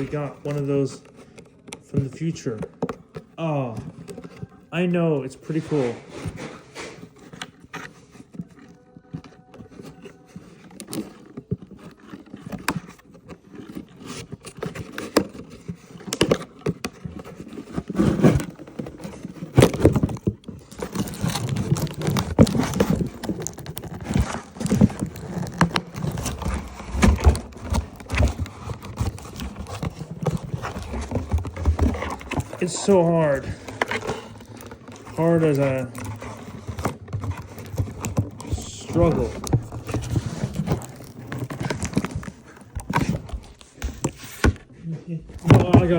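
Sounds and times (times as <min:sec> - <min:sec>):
toy packaging rustling and clicking: 0:00.0 - 0:45.9.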